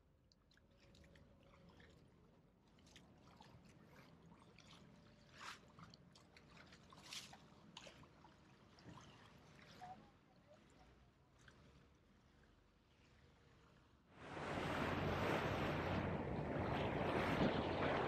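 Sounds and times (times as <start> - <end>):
water lapping and trickling: 0.0 - 18.0.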